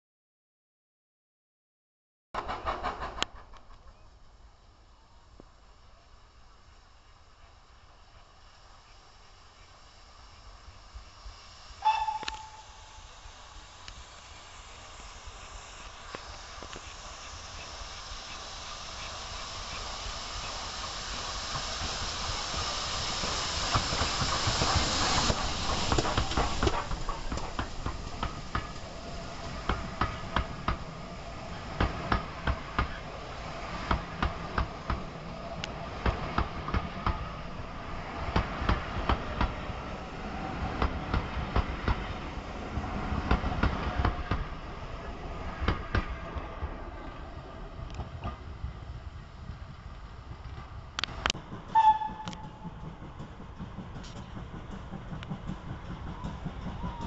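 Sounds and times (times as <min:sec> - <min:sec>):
train wheels clicking over rails: 0:02.4 - 0:04.1, 0:10.6 - 0:57.0
steam hissing: 0:02.4 - 0:57.0.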